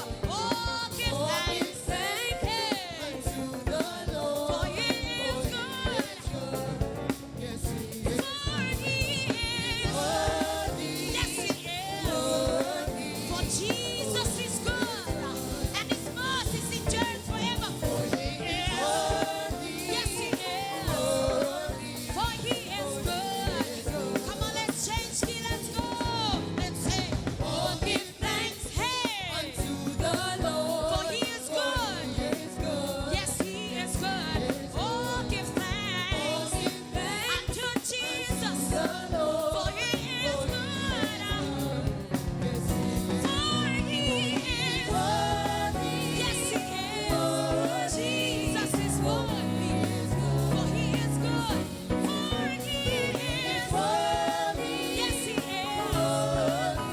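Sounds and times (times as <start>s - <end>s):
band accompaniment: 0.0s - 56.9s
group singing gospel song: 0.0s - 56.9s
steady drum beat: 0.0s - 56.9s.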